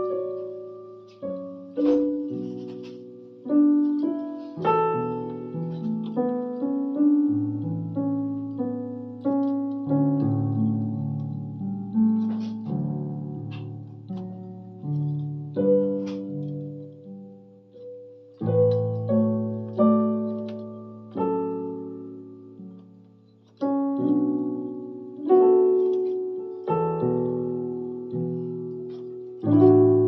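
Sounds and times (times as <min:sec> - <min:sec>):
slow gentle piano melody: 0:00.0 - 0:30.0.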